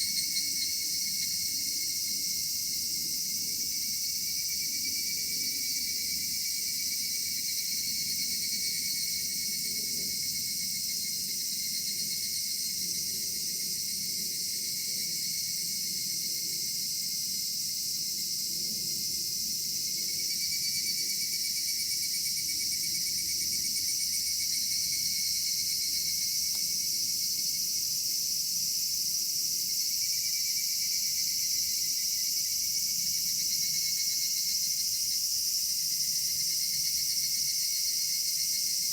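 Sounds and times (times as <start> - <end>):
cicadas chorus: 0.0 - 38.9
lower cicada call: 0.0 - 38.9.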